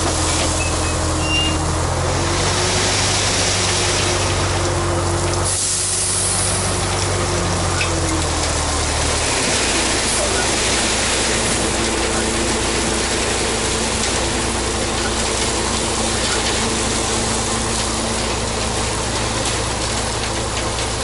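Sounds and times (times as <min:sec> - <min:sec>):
gravel sliding and rattling: 0:00.0 - 0:21.0
truck engine humming: 0:00.0 - 0:21.0.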